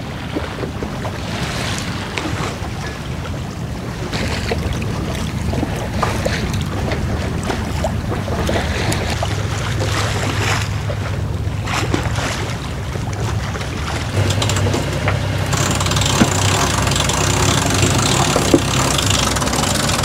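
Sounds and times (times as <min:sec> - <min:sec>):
water splashing along hull: 0:00.0 - 0:20.0
wind buffeting microphone: 0:00.0 - 0:20.0.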